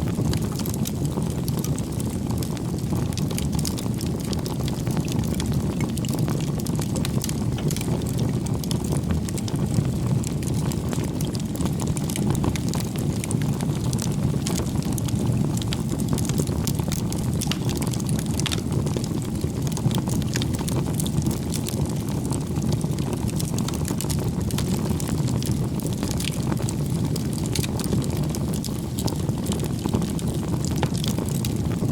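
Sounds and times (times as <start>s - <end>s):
campfire flames rushing: 0.0s - 31.9s
wood crackling and popping: 0.0s - 31.9s.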